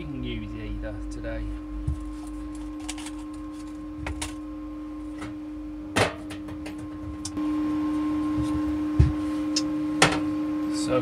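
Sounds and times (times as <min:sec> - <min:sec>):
workshop hum: 0:00.0 - 0:11.0.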